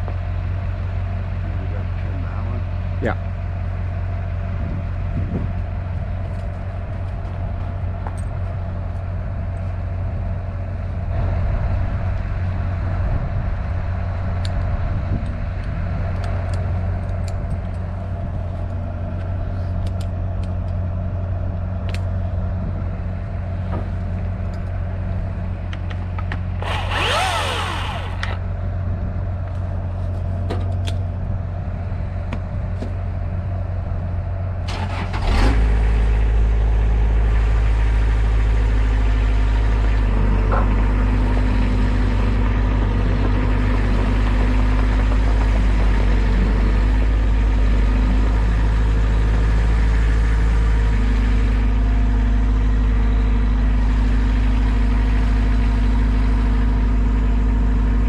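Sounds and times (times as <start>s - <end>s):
large engine idling: 0.0s - 58.0s.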